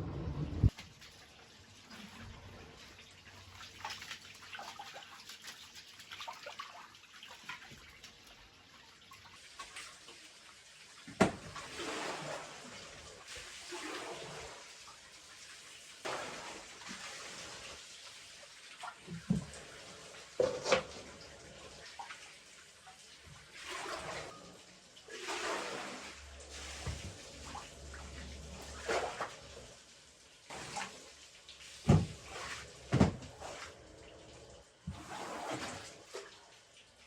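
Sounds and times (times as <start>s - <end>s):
water pouring and splashing: 0.6s - 37.0s.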